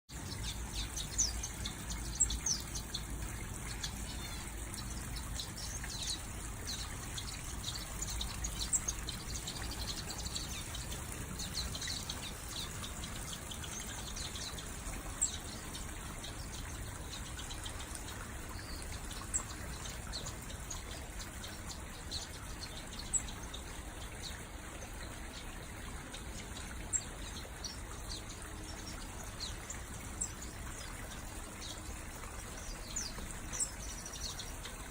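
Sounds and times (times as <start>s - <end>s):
finches chirping: 0.2s - 34.9s.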